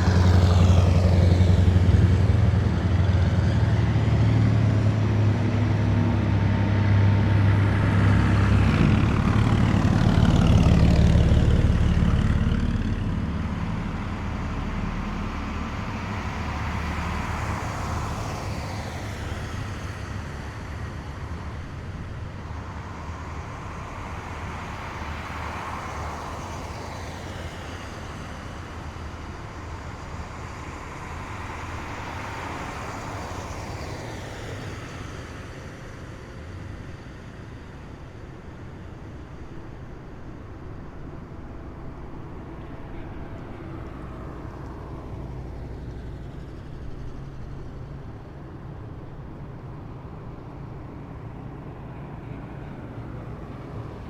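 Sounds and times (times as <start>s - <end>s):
heavy vehicles driving past: 0.0s - 54.0s.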